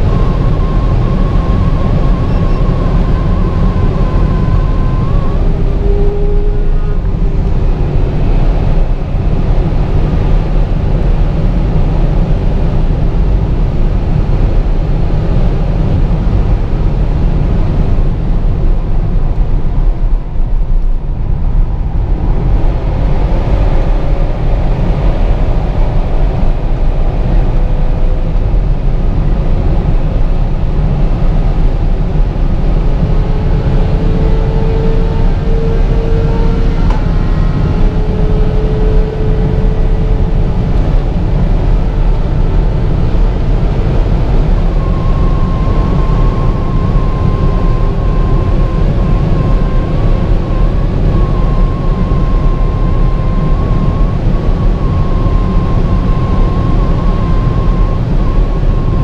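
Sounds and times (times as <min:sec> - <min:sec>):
car engine accelerating: 0:00.0 - 0:59.0
wind and tyre roar: 0:00.0 - 0:59.0.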